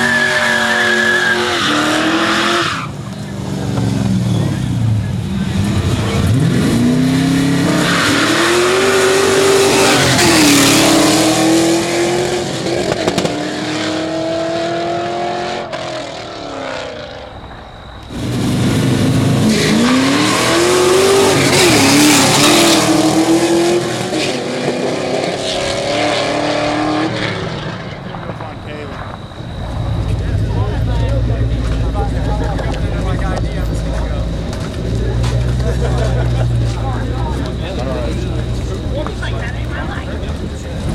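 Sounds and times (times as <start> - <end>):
drag racing cars accelerating: 0.0 - 40.9.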